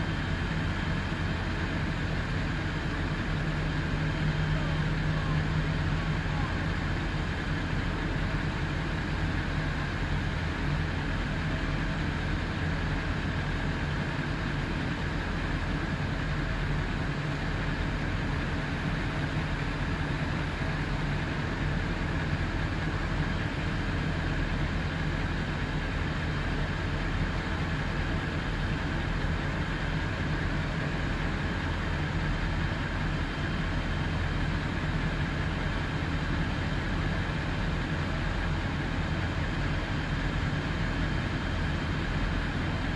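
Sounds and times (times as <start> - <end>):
fire truck engines running: 0.0 - 42.9.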